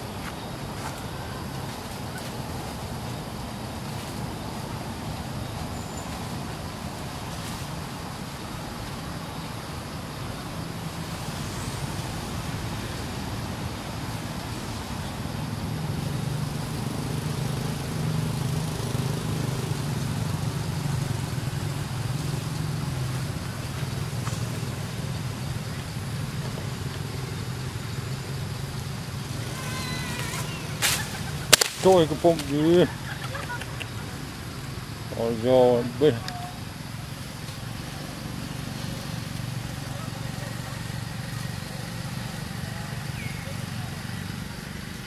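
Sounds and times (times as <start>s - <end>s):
outdoor background noise: 0.0s - 45.0s
passing motor vehicle hum: 0.0s - 45.0s.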